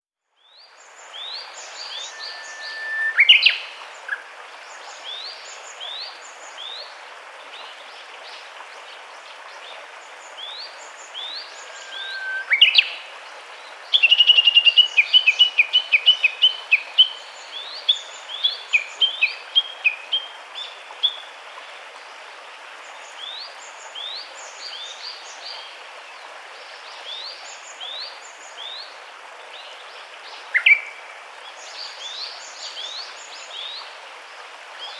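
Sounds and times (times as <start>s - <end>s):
outdoor background hiss: 0.3s - 34.9s.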